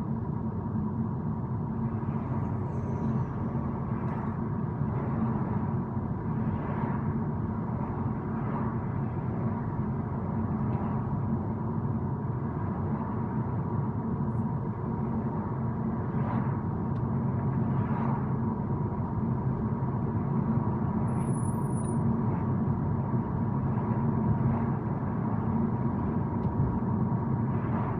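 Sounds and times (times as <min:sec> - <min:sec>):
car road and engine rumble: 0:00.0 - 0:27.9.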